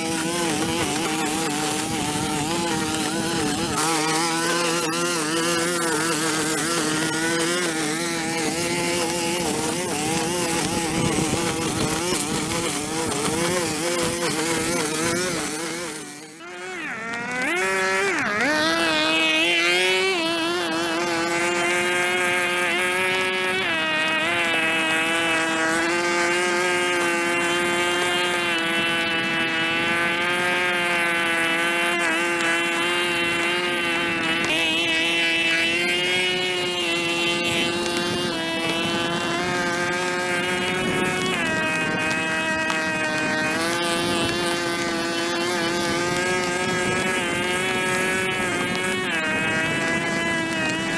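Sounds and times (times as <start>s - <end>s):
two-stroke engine revving: 0.0s - 50.9s.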